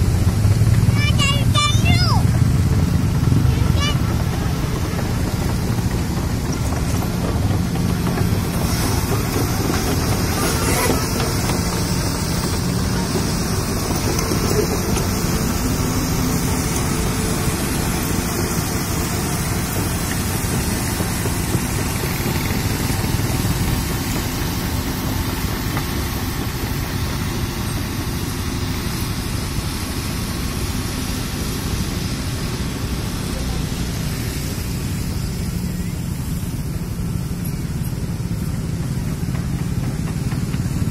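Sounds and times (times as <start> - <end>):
excavator moving over crushed rock: 0.0 - 31.0, 32.5 - 40.9
excavator diesel engine running: 0.0 - 40.9.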